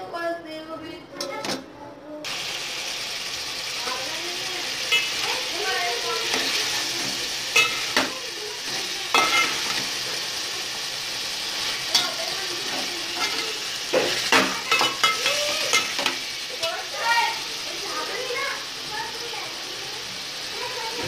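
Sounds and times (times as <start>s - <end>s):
chicken sizzling in hot oil: 2.3s - 21.0s.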